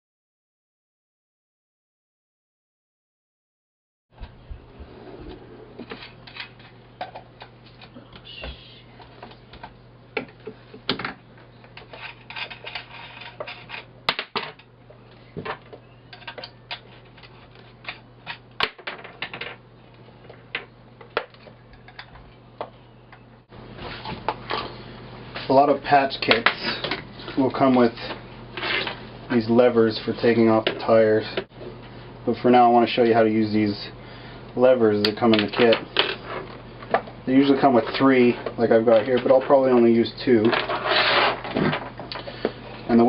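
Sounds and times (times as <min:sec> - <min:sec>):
steady low hum: 0:04.2 - 0:43.0.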